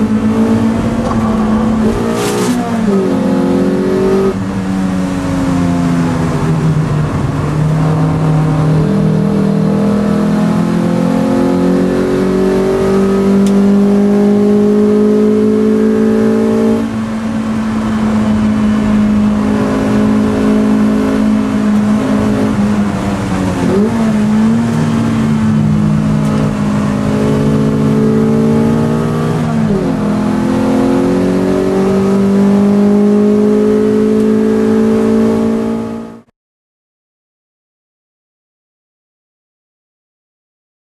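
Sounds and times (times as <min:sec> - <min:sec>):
race car engine from inside cabin: 0:00.0 - 0:36.3.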